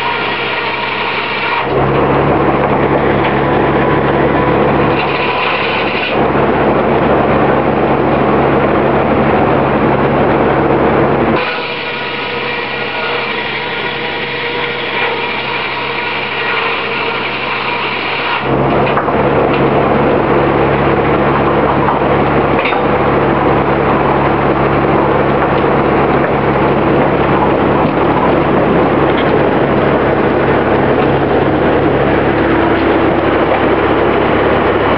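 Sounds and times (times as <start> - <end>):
low hum: 0.0 - 34.9
sawmill machinery running: 0.0 - 34.9.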